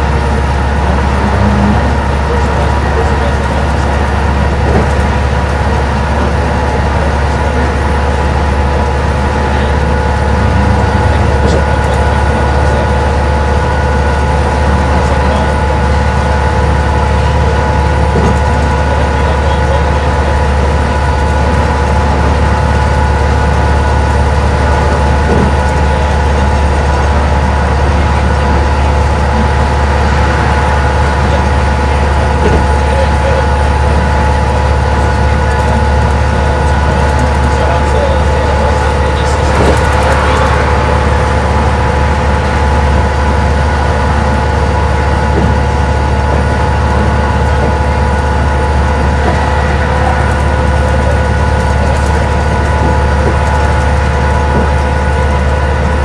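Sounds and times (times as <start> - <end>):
bus diesel engine drone: 0.0 - 56.0
high whines: 0.0 - 56.0
tyre and road noise: 0.0 - 56.0.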